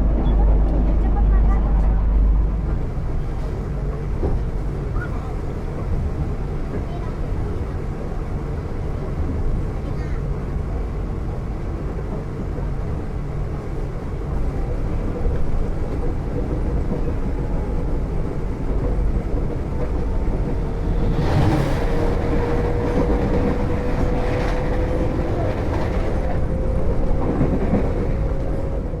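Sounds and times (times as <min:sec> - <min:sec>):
train low rumble: 0:00.0 - 0:29.0.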